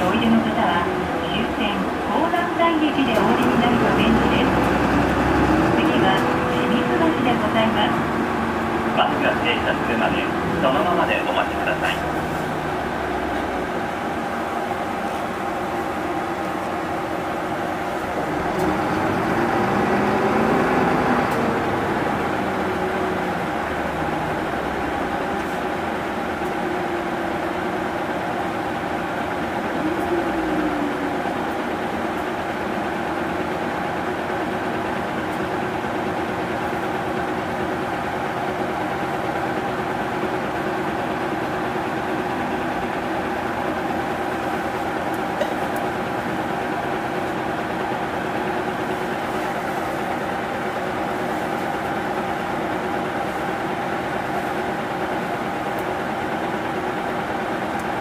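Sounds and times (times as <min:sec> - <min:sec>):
bus diesel engine idling: 0:00.0 - 0:58.0.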